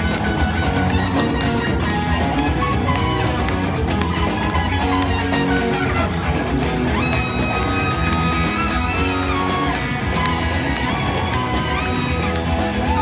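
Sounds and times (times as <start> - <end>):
live rock band: 0.0 - 13.0
trumpet solo: 0.0 - 13.0.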